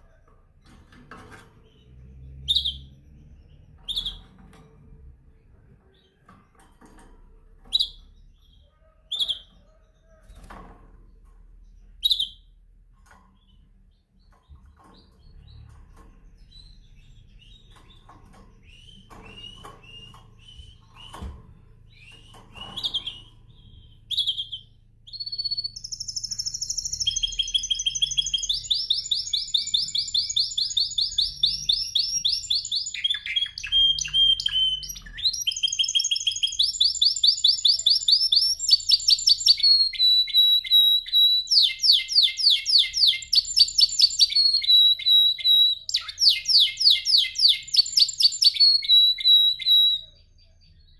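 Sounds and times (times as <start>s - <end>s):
canary chirps: 0.0s - 50.9s
canary trilling song: 0.0s - 50.9s.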